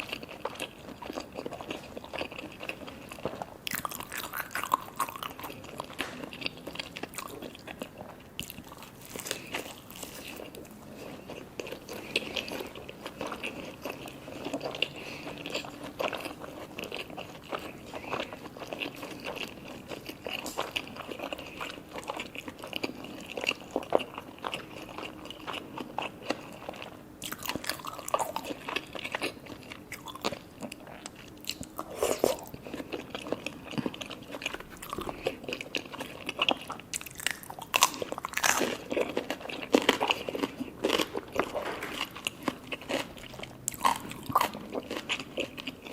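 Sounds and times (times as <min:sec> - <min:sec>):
crunching bites and chewing: 0:00.0 - 0:45.9.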